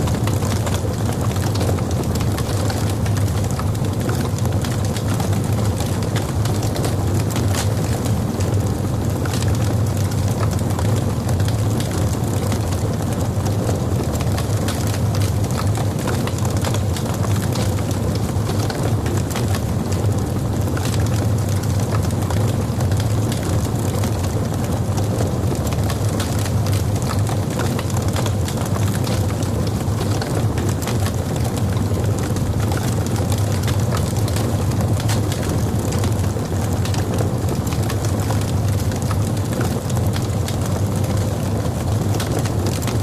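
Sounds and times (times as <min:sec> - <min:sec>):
logs burning in a fireplace: 0:00.0 - 0:43.0.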